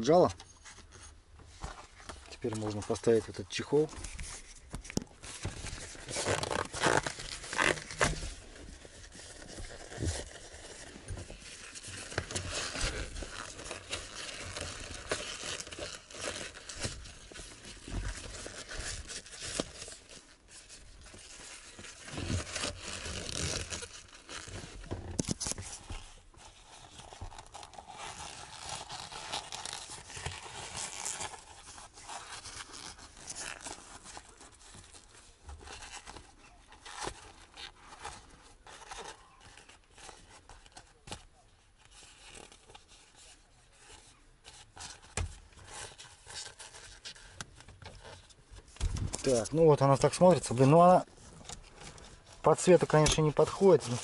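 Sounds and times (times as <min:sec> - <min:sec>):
leather boot crinkling and rubbing: 0:00.0 - 0:54.0.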